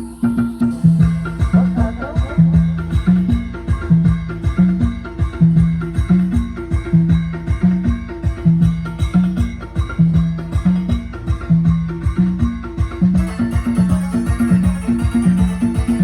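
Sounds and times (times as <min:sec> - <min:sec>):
fast drum beat: 0:00.7 - 0:16.0.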